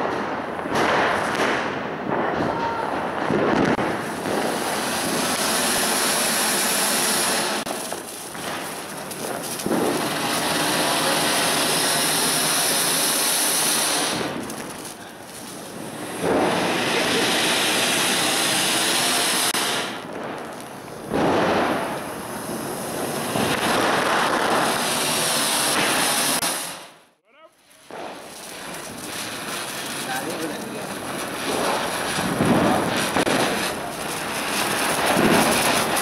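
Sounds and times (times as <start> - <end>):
fountain fireworks hissing: 0.7 - 27.0, 27.8 - 36.0.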